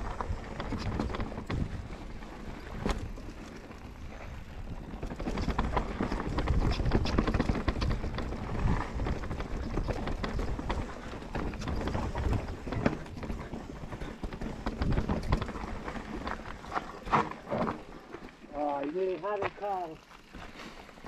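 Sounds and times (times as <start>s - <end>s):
mountain bike clattering on trail: 0.0s - 21.0s.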